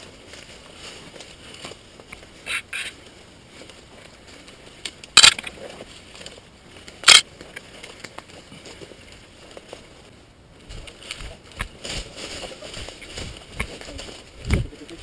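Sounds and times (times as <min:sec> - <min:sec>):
footsteps rustling leaves and twigs: 0:00.0 - 0:15.0.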